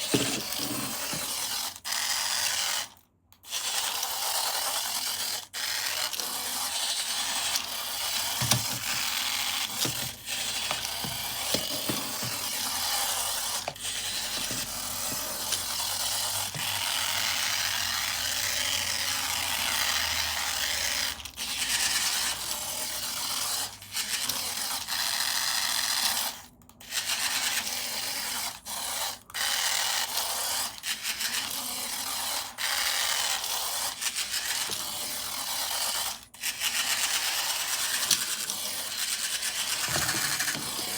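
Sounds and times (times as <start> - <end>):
toy motor whirring rattle: 0.0 - 40.9.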